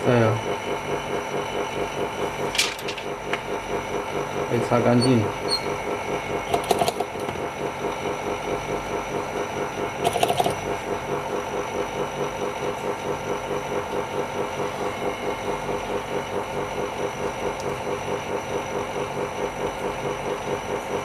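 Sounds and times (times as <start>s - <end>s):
vacuum pump motor pulsing: 0.0s - 21.0s.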